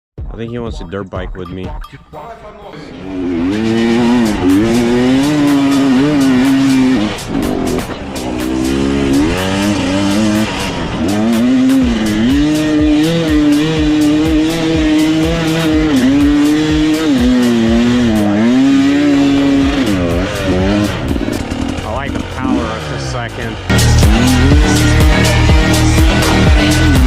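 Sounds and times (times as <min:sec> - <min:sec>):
dirt bike engine revving: 0:02.8 - 0:27.0.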